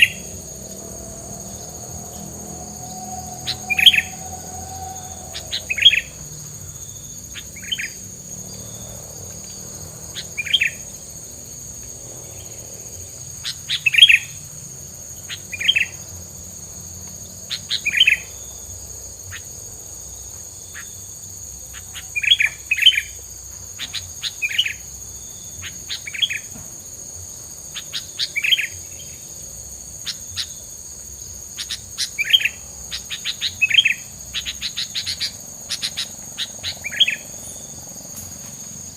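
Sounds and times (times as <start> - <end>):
high insect-like drone: 0.0 - 38.9
songbird chirping: 0.0 - 38.9.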